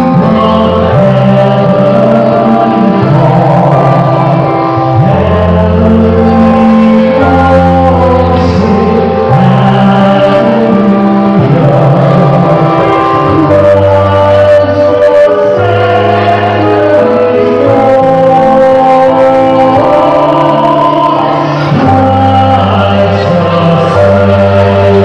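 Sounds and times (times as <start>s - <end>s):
amplified instrumental accompaniment: 0.0s - 25.0s
man singing into a microphone: 0.0s - 25.0s.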